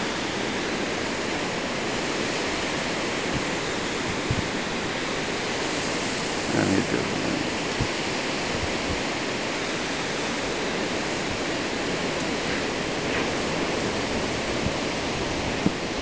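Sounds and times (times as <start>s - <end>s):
surf breaking on beach: 0.0s - 16.0s
wind blowing across microphone: 0.0s - 16.0s.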